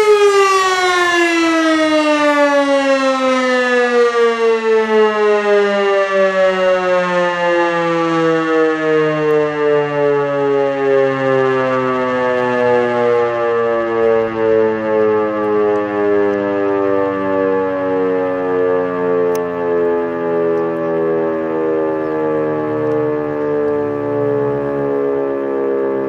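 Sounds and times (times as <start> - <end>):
siren winding down: 0.0 - 26.0.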